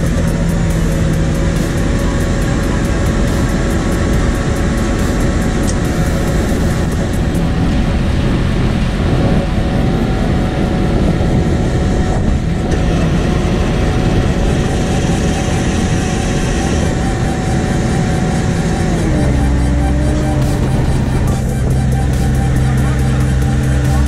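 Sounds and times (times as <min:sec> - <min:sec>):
faint steady whine: 0:00.0 - 0:24.0
paving machine diesel engine: 0:00.0 - 0:24.0.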